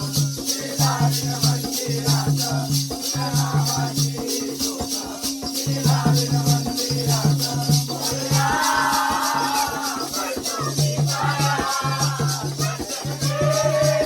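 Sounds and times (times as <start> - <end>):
drum beating: 0.0 - 14.0
high rattling jingle: 0.0 - 14.0.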